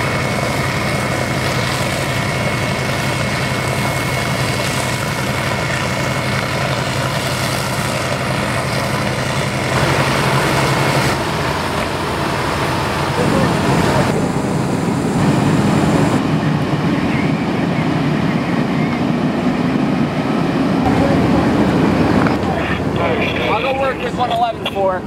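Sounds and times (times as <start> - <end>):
heavy diesel engines running: 0.0 - 25.0.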